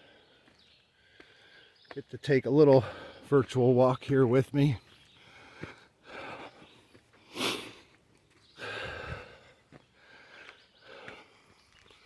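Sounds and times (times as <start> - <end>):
man breathing heavily: 0.0 - 1.8, 2.7 - 3.5, 4.8 - 12.0.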